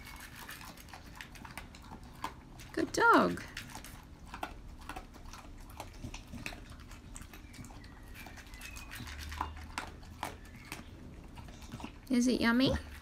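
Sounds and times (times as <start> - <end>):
dog chewing wetly: 0.0 - 13.0.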